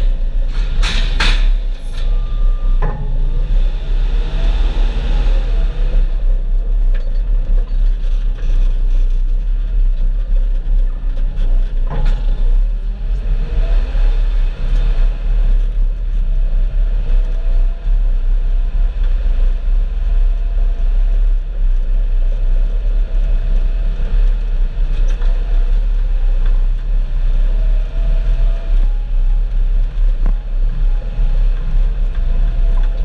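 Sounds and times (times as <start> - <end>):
tractor engine rumbling: 0.0 - 33.0.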